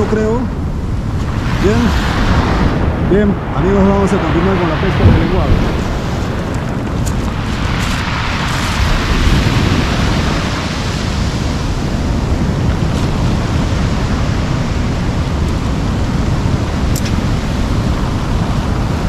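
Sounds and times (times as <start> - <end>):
surf breaking on a cobble beach: 0.0 - 19.0
wind rumble on microphone: 0.0 - 19.0.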